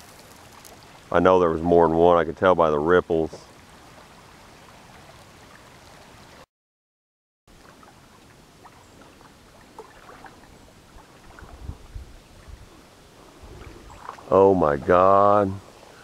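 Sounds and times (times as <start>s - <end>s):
creek water flowing over gravel: 0.0s - 6.4s, 7.5s - 16.0s.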